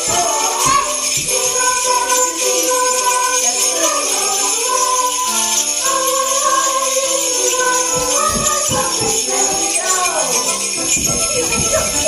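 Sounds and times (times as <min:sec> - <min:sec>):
music with singing voices: 0:00.0 - 0:12.0
sleigh bells jingling: 0:00.0 - 0:12.0.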